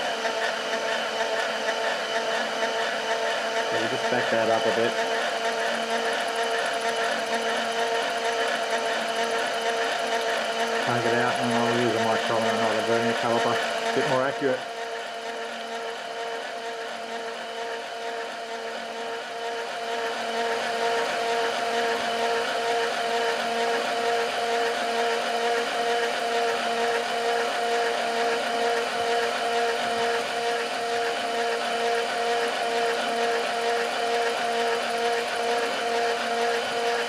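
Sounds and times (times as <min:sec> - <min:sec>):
milling machine cutting metal: 0:00.0 - 0:37.0.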